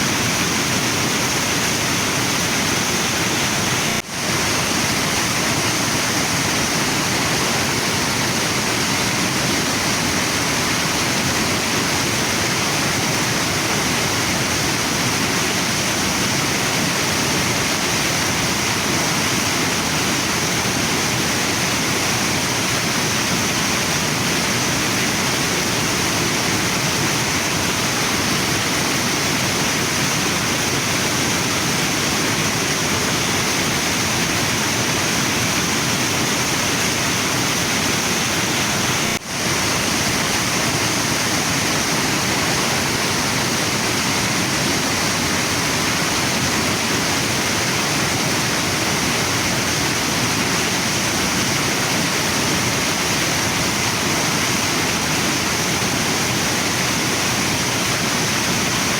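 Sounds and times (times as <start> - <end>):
waterfall and river rushing: 0.0 - 58.9.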